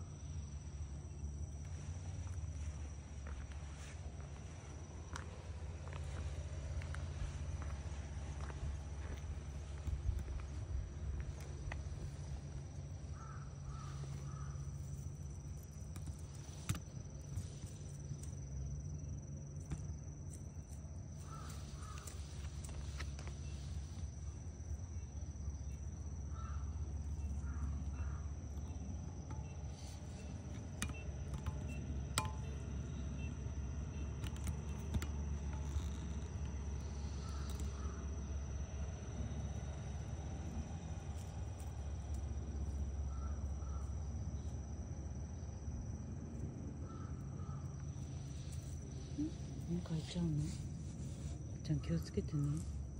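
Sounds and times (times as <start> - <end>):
high-pitched insect trill: 0.0 - 52.9
low steady rumble: 0.0 - 52.9.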